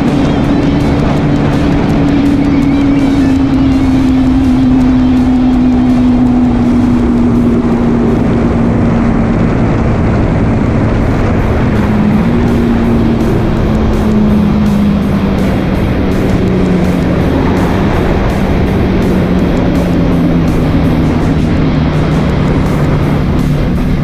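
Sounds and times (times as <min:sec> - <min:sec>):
motorcycle engine at high revs: 0:00.0 - 0:24.0.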